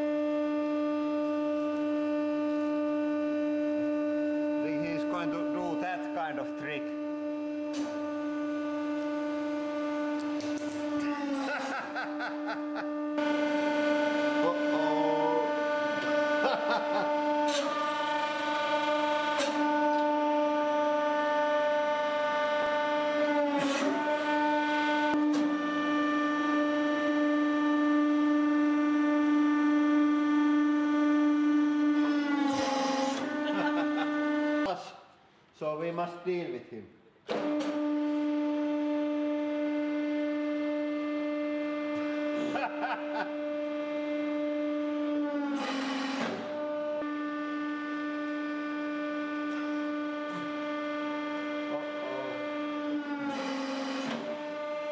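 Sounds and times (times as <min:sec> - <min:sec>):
pump motor droning hum: 0:00.0 - 0:34.8, 0:37.3 - 0:54.9.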